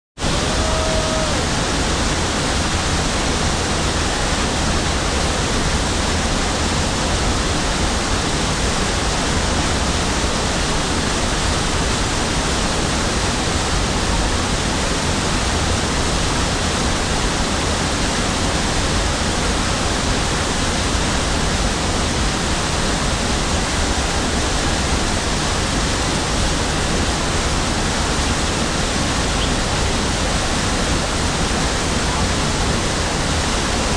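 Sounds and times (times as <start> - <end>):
waterfall pouring over rocks: 0.2 - 33.9.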